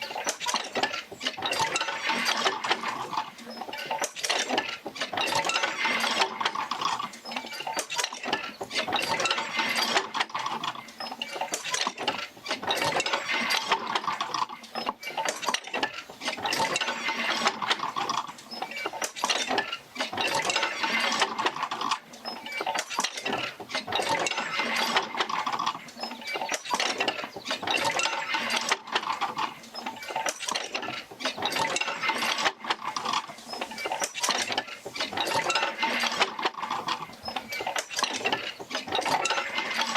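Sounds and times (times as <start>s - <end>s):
mechanical wheel clattering and squeaking: 0.0s - 39.9s.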